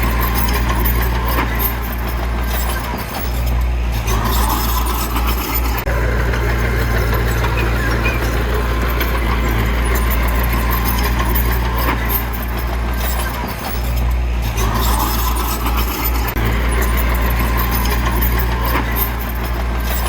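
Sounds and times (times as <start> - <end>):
clatter and scraping: 0.0 - 20.0
diesel engine droning: 0.0 - 20.0.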